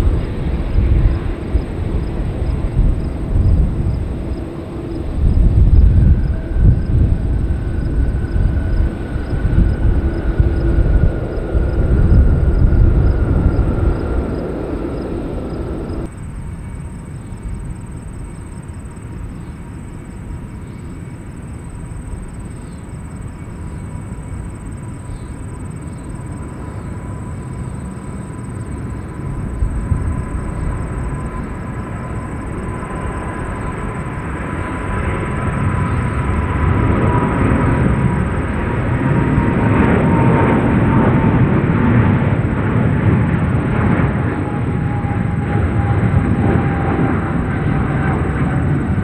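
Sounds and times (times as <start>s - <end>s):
steady low rumble: 0.0s - 19.1s, 23.2s - 49.0s
jet airliner engine whine: 0.0s - 49.0s.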